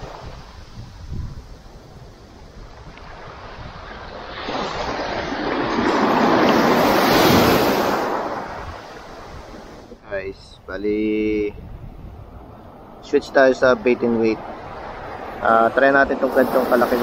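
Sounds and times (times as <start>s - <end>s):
wave breaking and washing in: 0.0s - 17.0s.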